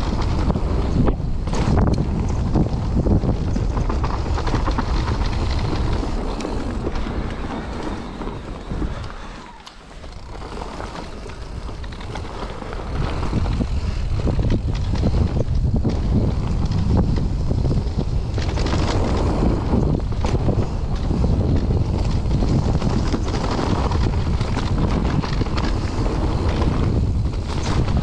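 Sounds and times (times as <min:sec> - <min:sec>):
bike rattling: 0:00.0 - 0:28.0
bike tyres rumbling on dirt: 0:00.0 - 0:28.0
wind buffeting microphone: 0:00.0 - 0:28.0.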